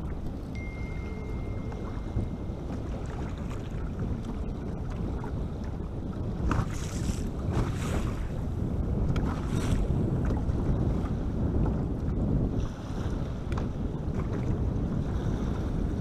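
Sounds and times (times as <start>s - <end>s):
waves slapping boat hull: 0.0s - 16.0s
wind buffeting microphone: 0.0s - 16.0s.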